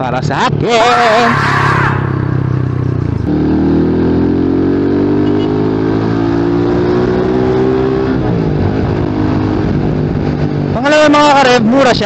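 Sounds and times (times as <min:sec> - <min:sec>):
motorcycle engine accelerating: 0:00.3 - 0:12.0.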